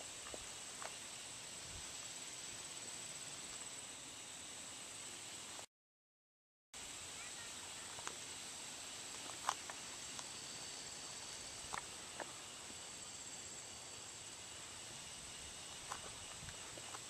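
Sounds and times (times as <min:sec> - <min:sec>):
insects droning: 0:00.0 - 0:05.7, 0:06.8 - 0:17.0.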